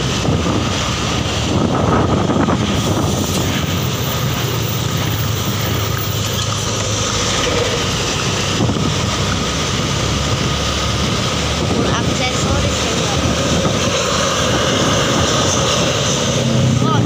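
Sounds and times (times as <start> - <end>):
tyre and road noise: 0.0 - 17.0
vehicle engine drone: 0.0 - 17.0.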